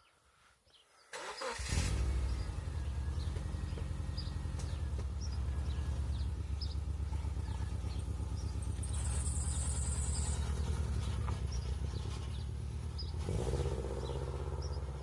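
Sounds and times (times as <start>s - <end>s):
car engine idling: 1.2s - 15.0s.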